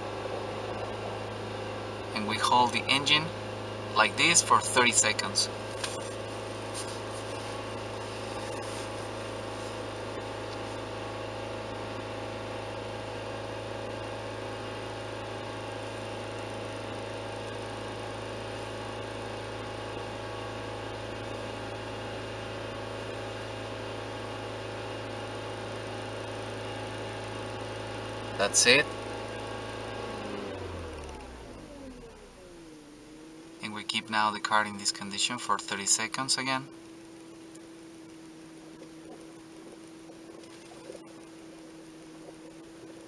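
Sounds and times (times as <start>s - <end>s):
car engine humming: 0.0s - 43.0s.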